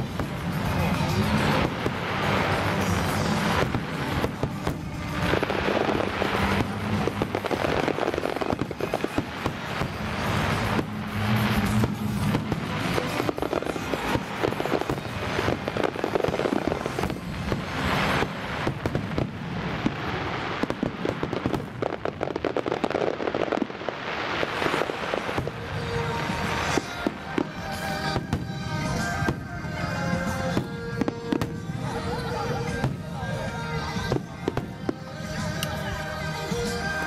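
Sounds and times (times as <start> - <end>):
fireworks crackling and popping: 0.0 - 37.0
music: 0.0 - 37.0.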